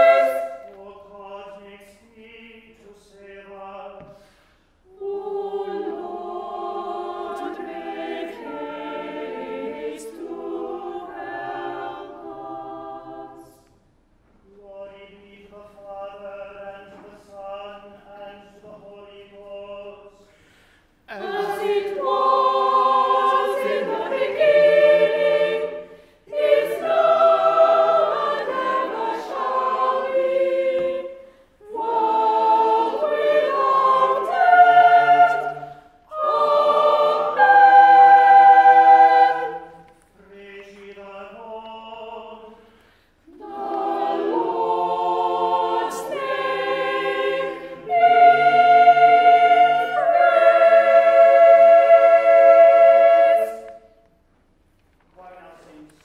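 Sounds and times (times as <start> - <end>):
cantor singing: 0.0 - 4.2, 4.9 - 13.7, 14.4 - 20.4, 21.1 - 54.1
choir singing in harmony: 0.0 - 13.9, 14.5 - 20.4, 21.1 - 54.0.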